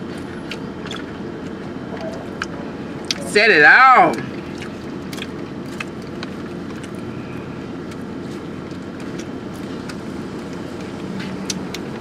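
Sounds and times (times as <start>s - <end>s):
car idling with air conditioning: 0.0s - 12.0s.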